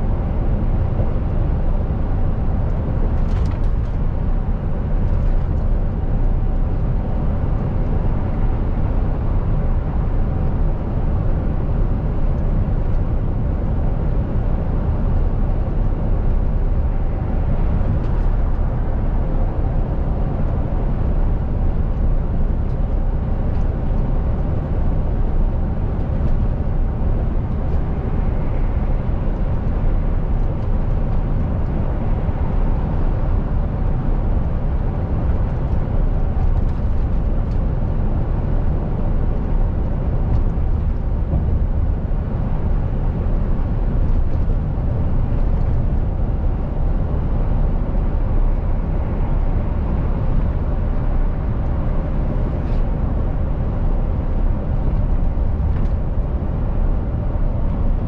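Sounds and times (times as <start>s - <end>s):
road noise: 0.0s - 58.0s
truck diesel engine rumble: 0.0s - 58.0s.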